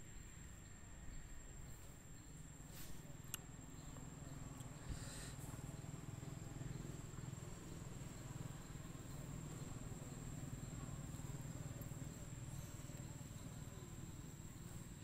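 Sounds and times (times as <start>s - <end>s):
high-pitched insect whine: 0.0s - 15.0s.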